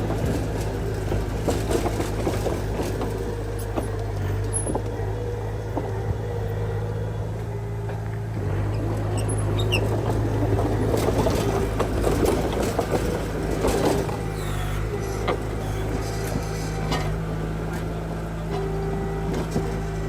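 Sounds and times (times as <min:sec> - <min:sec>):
bulldozer diesel engine: 0:00.0 - 0:20.0
dense clattering and rattling: 0:00.0 - 0:20.0.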